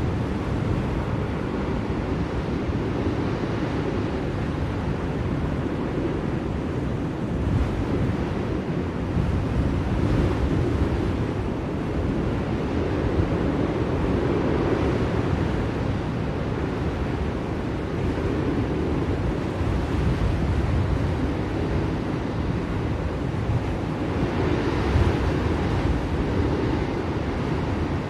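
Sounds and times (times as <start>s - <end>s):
blizzard wind rushing: 0.0s - 28.0s.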